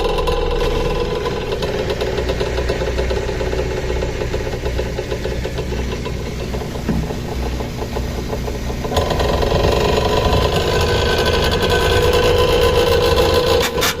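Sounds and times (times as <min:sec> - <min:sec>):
steady whine: 0:00.0 - 0:14.0
washing machine spinning with knocking: 0:00.0 - 0:14.0.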